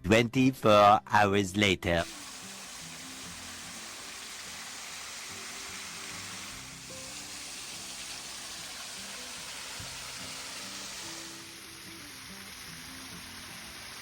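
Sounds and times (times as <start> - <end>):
background music low notes: 0.0 - 14.0
rushing water hiss: 2.0 - 14.0.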